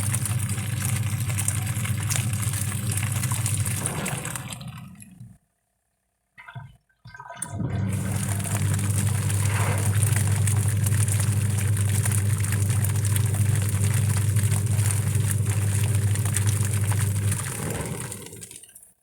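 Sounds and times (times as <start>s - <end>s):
washing machine humming: 0.0s - 5.4s, 6.4s - 19.0s.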